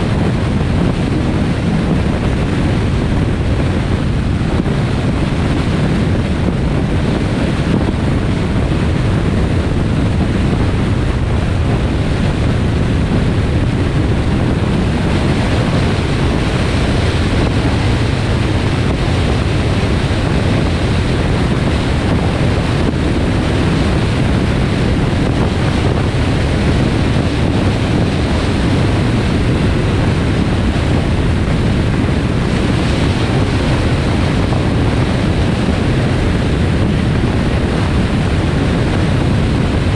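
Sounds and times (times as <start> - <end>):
tyre and road rumble: 0.0 - 39.9
wind buffeting microphone: 0.0 - 39.9.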